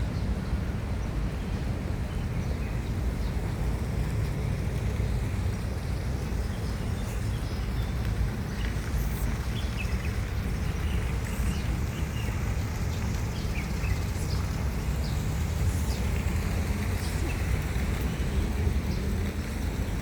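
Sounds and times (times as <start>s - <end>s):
small birds chirping: 1.5s - 20.0s.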